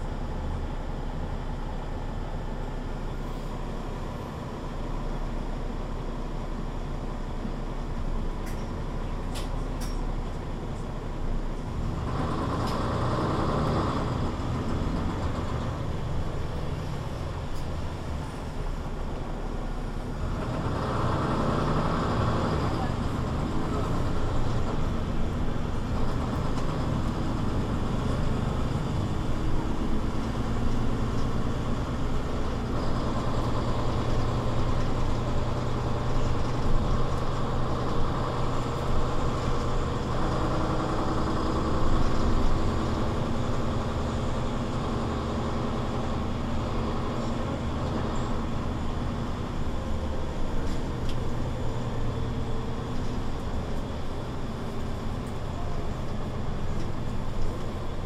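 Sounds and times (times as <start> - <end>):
bus engine humming: 0.0 - 58.0.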